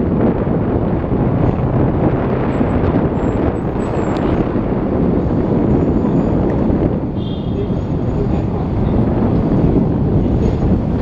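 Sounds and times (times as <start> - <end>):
tram rumbling along track: 0.0 - 11.0
wind buffeting microphone: 0.0 - 11.0.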